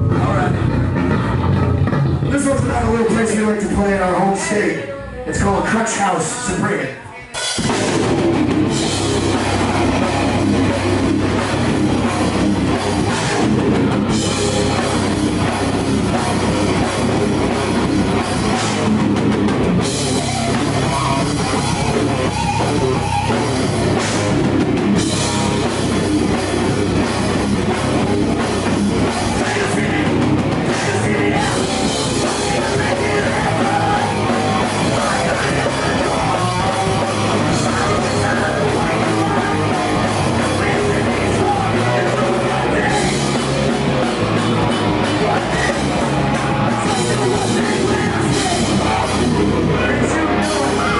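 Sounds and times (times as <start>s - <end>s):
pounding drum kit: 0.0s - 4.6s, 7.3s - 50.9s
electric guitars: 0.0s - 50.9s.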